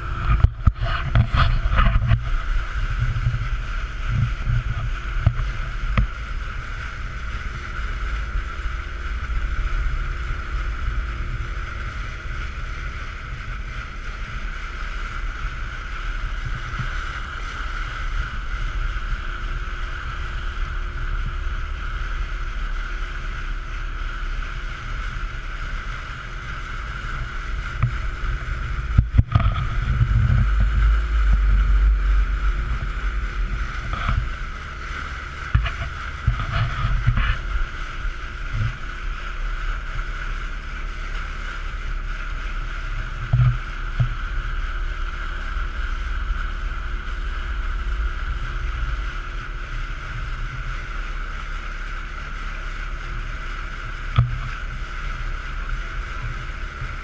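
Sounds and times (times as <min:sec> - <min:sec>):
outboard motor drone: 0:00.0 - 0:57.0
water rushing past hull: 0:00.0 - 0:57.0
wind buffeting microphone: 0:00.0 - 0:57.0.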